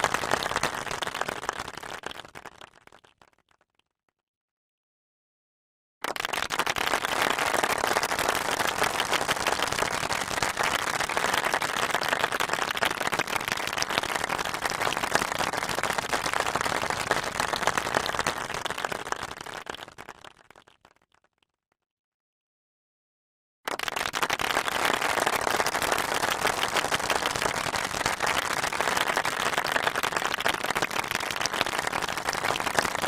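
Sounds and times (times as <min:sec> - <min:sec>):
audience applause: 0:00.0 - 0:02.8, 0:06.1 - 0:20.6, 0:23.7 - 0:33.0.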